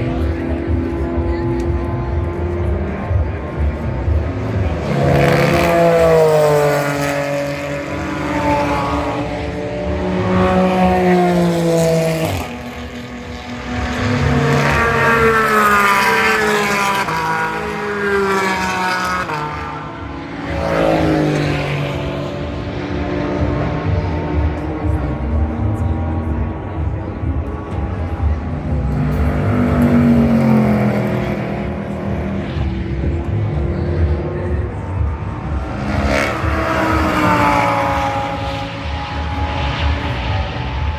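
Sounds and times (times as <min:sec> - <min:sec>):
race car engines accelerating: 0:00.0 - 0:40.9.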